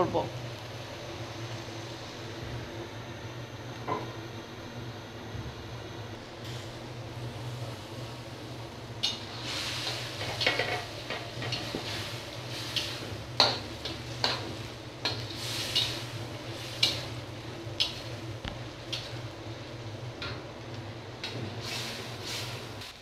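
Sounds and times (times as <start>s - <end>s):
curry simmering sizzle: 0.3s - 23.0s.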